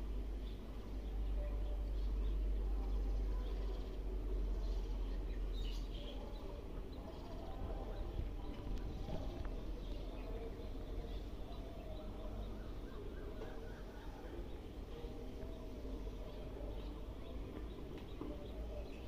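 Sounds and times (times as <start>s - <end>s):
faint bird chirps: 0.1s - 19.0s.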